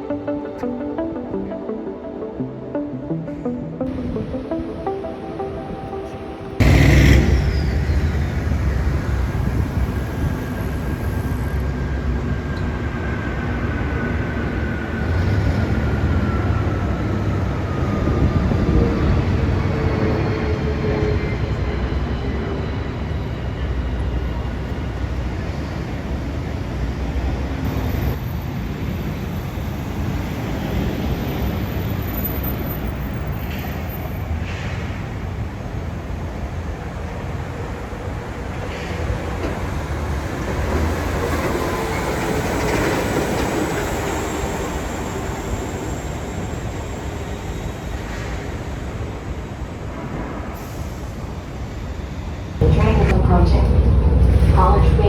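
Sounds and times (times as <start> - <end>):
rail car rumbling: 6.4 - 55.0.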